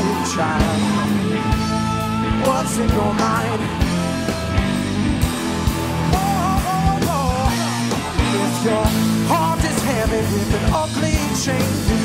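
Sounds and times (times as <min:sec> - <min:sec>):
bending lead melody: 0:00.0 - 0:12.0
blues-rock band playing: 0:00.0 - 0:12.0.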